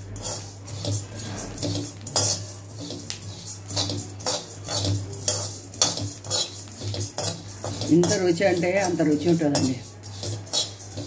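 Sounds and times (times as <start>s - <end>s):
metal spatula scraping seeds in pan: 0.0s - 11.0s
seeds rattling against pan: 0.0s - 11.0s.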